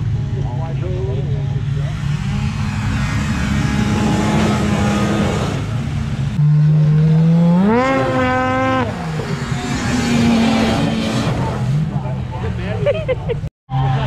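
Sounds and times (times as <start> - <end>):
second snowmobile engine: 0.0 - 14.0
snowmobile engine revving: 1.2 - 13.0.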